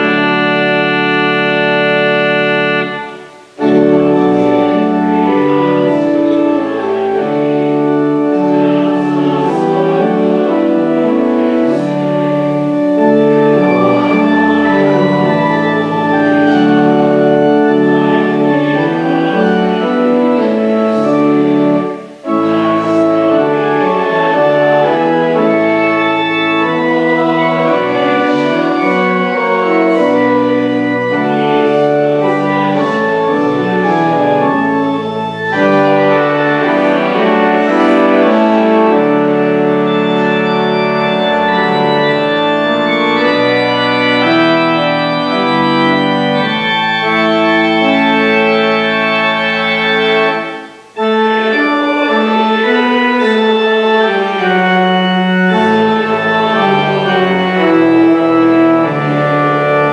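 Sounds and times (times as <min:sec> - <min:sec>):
pipe organ playing a hymn: 0:00.0 - 0:59.9.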